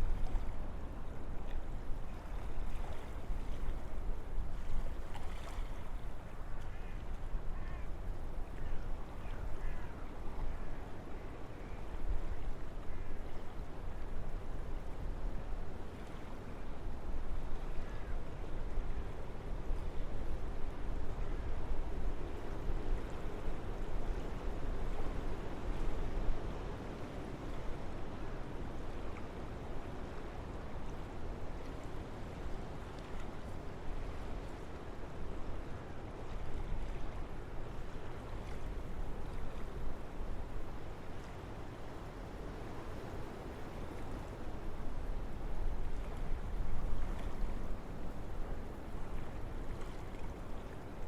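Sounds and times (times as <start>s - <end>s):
wind through trees: 0.0s - 51.0s.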